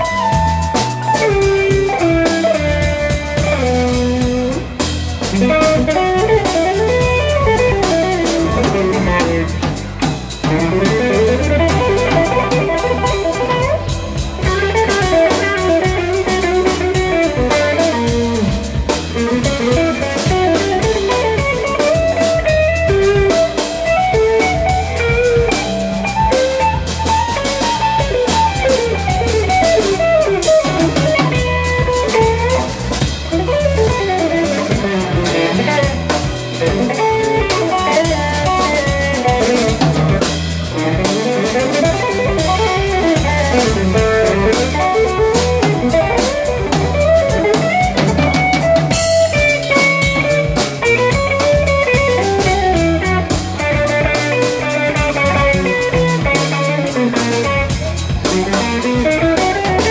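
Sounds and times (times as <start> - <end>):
electric guitar lead line: 0.0 - 59.9
rock trio playing live: 0.0 - 59.9.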